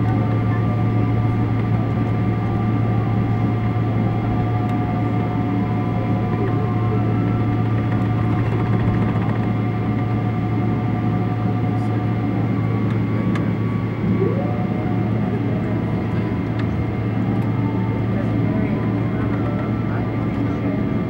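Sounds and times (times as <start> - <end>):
jet engines humming and whining: 0.0 - 21.0.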